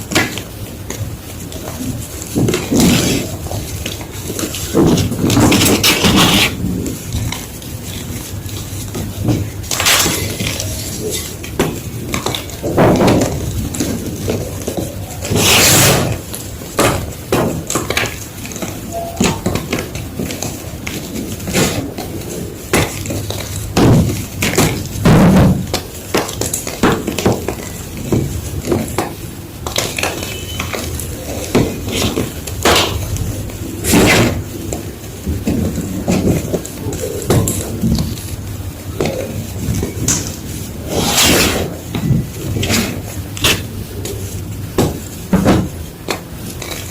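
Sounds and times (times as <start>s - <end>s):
chalk block crunching: 1.5s - 46.9s.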